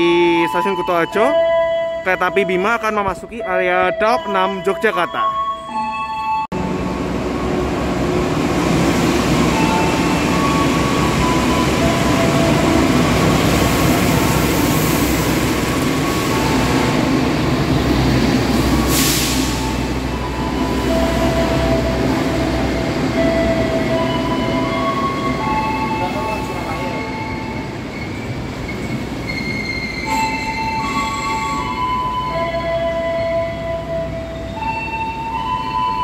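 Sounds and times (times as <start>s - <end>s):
train wheels rumbling on rails: 6.6s - 36.0s.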